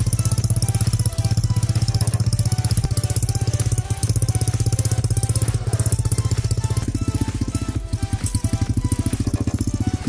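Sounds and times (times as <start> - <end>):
single-cylinder engine thudding: 0.0 - 10.0.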